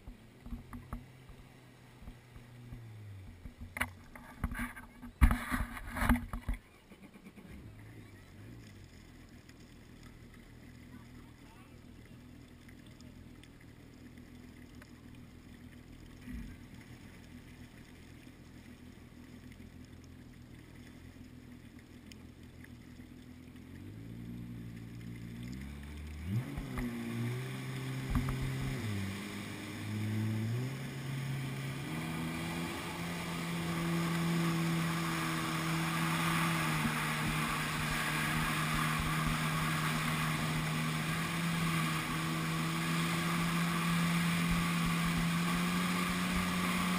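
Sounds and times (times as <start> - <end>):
rushing water spray: 0.0 - 46.9
wind: 0.0 - 46.9
jet ski engine revving: 5.2 - 46.9.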